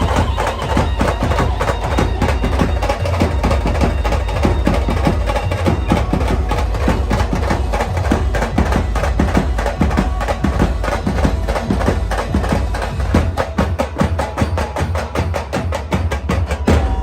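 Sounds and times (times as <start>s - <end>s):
drums in fast rhythm: 0.0s - 17.0s.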